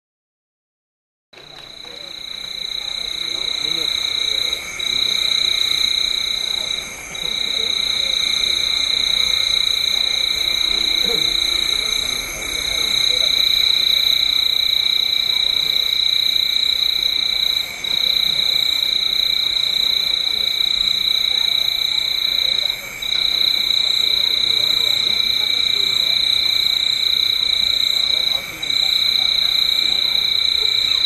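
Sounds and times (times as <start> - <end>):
chorus of night frogs and insects: 1.4 - 31.0.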